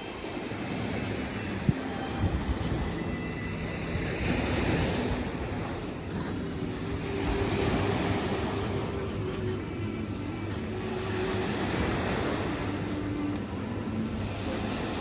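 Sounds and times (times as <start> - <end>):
ocean surf washing ashore: 0.0 - 15.0
wind on microphone: 0.0 - 15.0.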